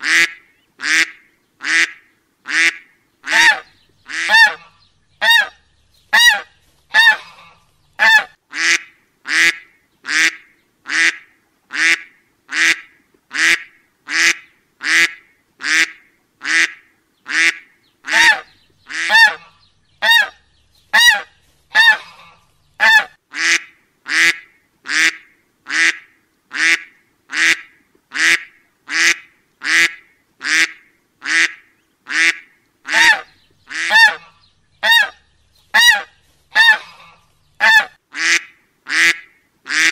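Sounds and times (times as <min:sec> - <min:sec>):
duck quacking: 0:00.0 - 0:39.9.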